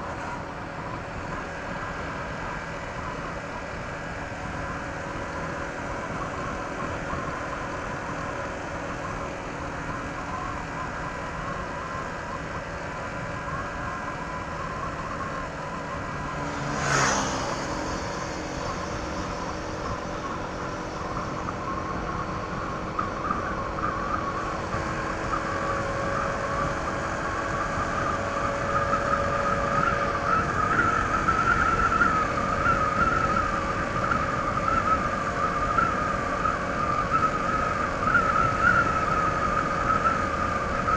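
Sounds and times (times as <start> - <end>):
scooter engine running: 0.0 - 40.9
wind and road noise: 0.0 - 40.9.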